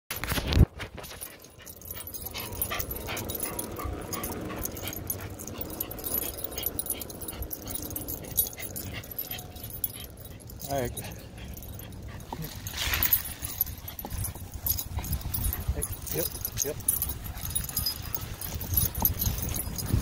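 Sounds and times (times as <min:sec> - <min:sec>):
wind and tyre noise: 0:00.1 - 0:20.0
dogs whining and panting: 0:00.2 - 0:20.0.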